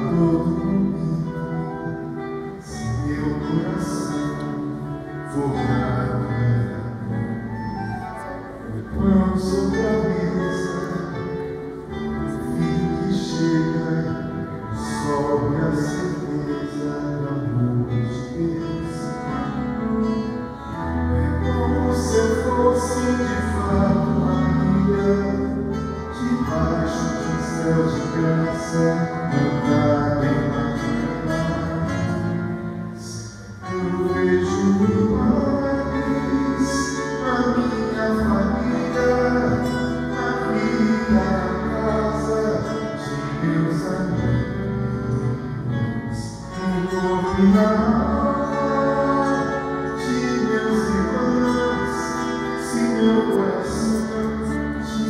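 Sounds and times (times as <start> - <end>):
accordion: 0.0 - 55.0
acoustic guitar: 0.0 - 55.0.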